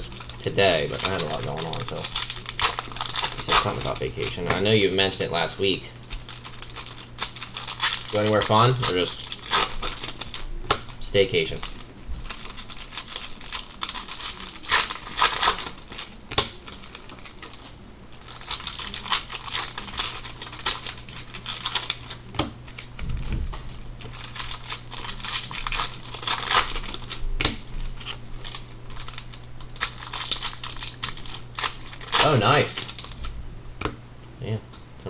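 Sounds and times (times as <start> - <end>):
plastic wrapper crinkling: 0.0 - 33.3.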